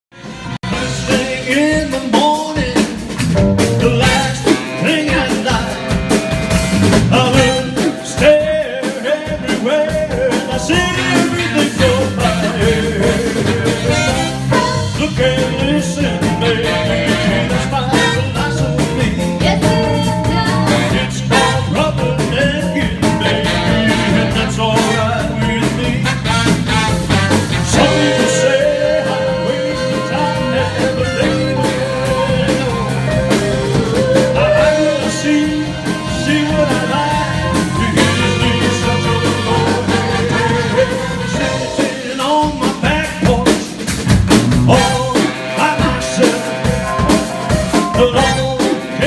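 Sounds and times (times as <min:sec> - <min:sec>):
drums beating: 0:00.1 - 0:49.0
live rock and roll band: 0:00.1 - 0:49.0.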